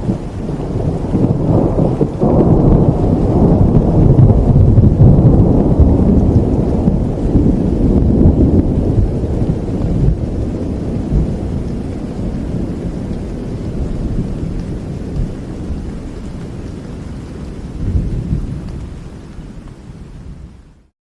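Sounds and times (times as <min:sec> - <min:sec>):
steady rain: 0:00.0 - 0:20.9
thunder rumbling: 0:00.0 - 0:20.9.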